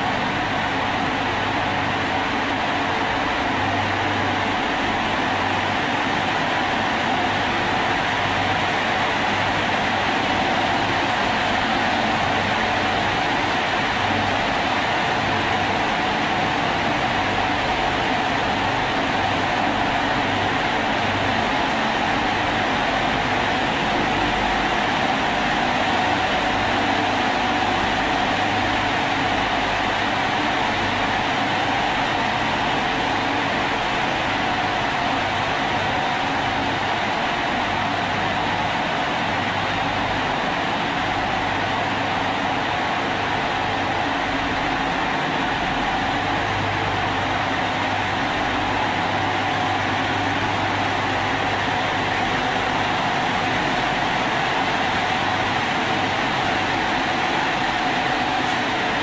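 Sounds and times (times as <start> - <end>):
train machinery humming: 0.0 - 59.0.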